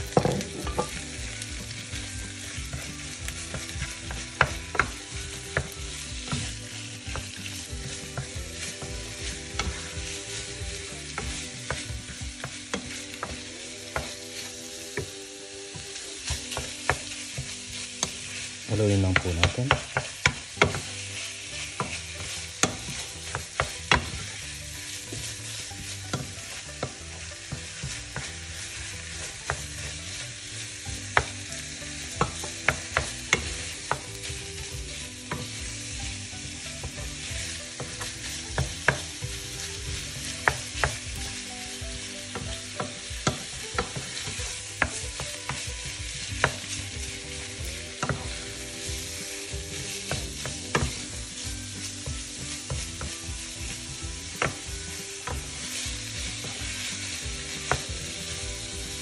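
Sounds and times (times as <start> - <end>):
spatula knocking and scraping pan: 0.0 - 14.2, 19.1 - 59.0
meat sizzling in a frying pan: 0.0 - 59.0.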